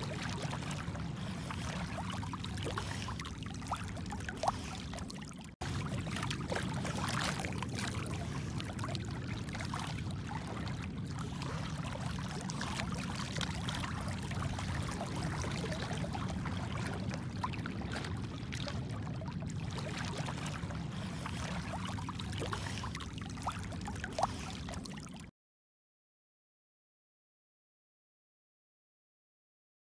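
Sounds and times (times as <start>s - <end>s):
seawater sloshing and splashing: 0.0s - 25.3s.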